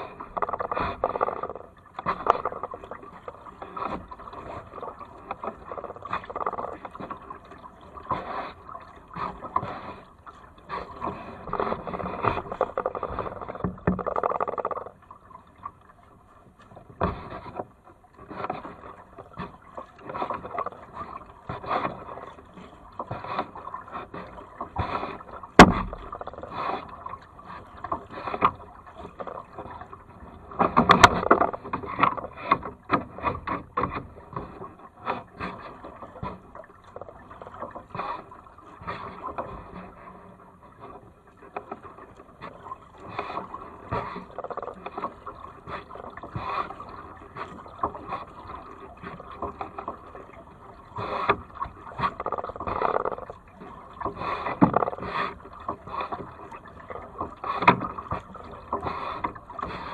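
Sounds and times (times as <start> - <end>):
paddle splashing water: 0.0 - 59.9.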